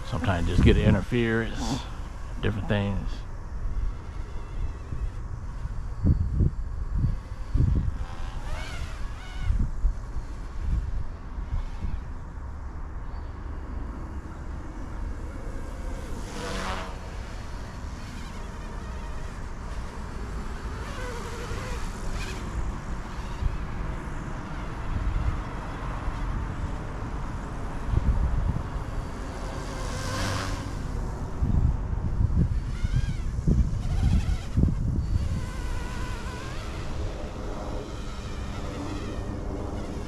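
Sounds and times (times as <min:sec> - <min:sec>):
toy helicopter rotors buzzing: 0:00.0 - 0:12.3, 0:14.2 - 0:40.0.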